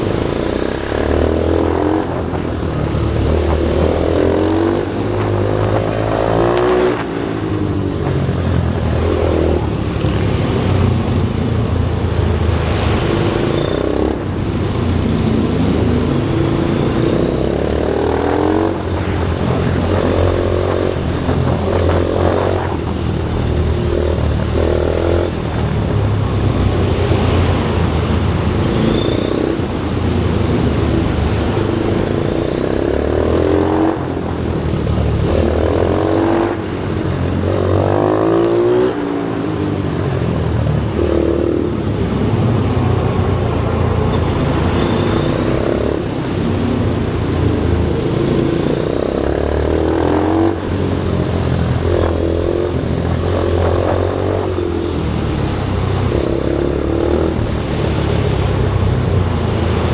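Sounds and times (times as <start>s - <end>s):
pit bike engine revving: 0.0s - 59.9s.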